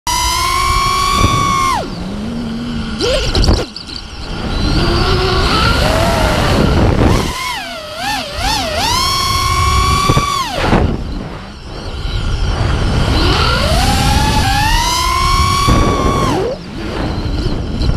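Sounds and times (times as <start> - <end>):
drone propellers whining: 0.1 - 17.9.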